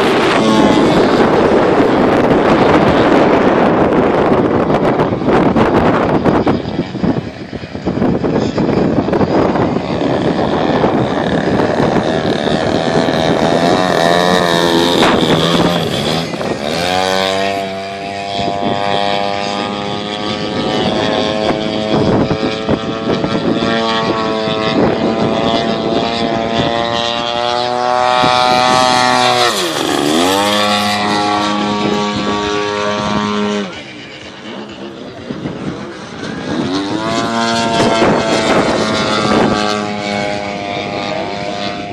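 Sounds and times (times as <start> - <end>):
model plane engine running: 0.0 - 41.9.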